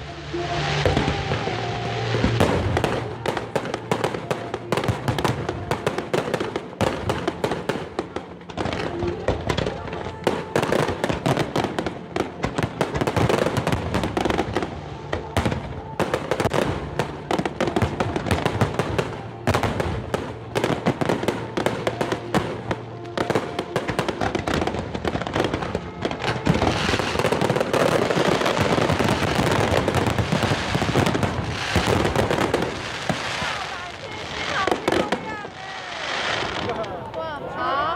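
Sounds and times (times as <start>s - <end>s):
fireworks bursting: 0.0s - 37.6s
music playing: 0.0s - 37.9s.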